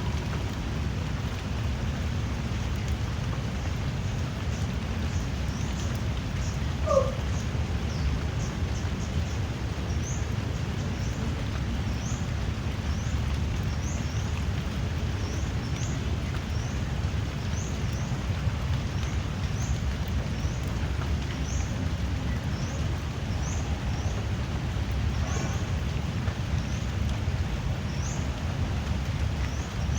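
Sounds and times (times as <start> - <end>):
drizzling rain: 0.0 - 29.9.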